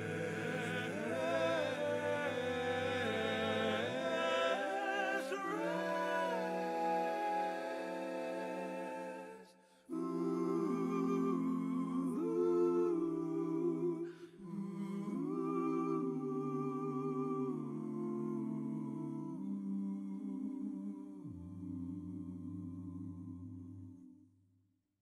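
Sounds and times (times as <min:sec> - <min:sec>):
voices humming in harmony: 0:00.0 - 0:23.8.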